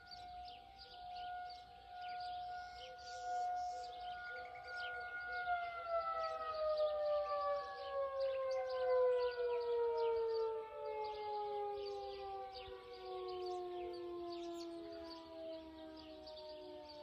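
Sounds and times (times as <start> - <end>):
warning sirens winding down: 0.0 - 17.0.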